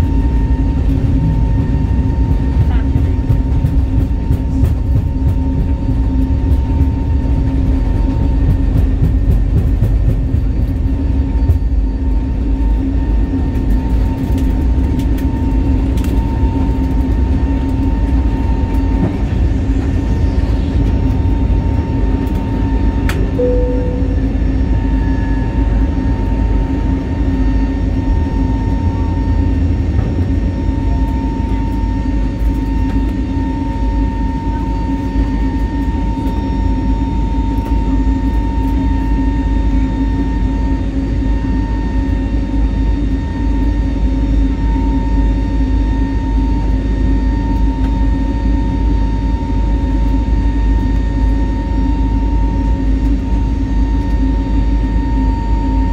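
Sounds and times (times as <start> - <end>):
airplane cabin engine rumble: 0.0 - 55.9
constant hum: 0.0 - 55.9.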